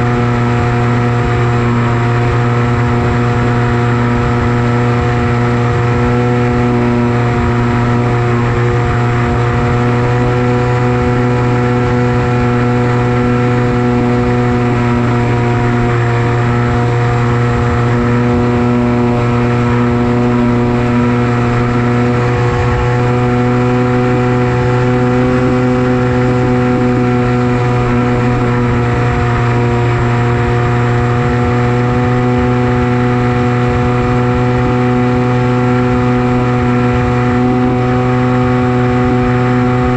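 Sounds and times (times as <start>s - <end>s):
electric motor and propeller buzzing: 0.0s - 39.9s
wind buffeting microphone: 0.0s - 39.9s.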